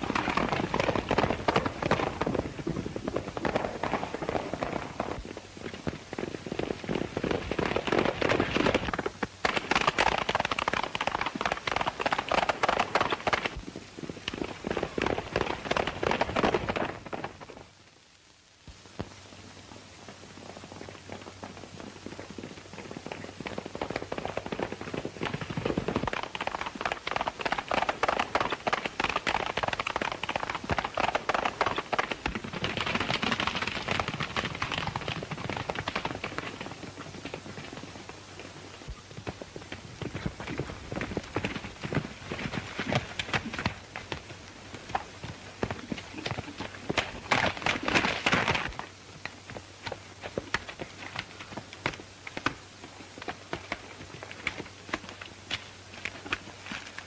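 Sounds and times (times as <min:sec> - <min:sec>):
horses galloping: 0:00.0 - 0:17.9, 0:18.6 - 0:57.0.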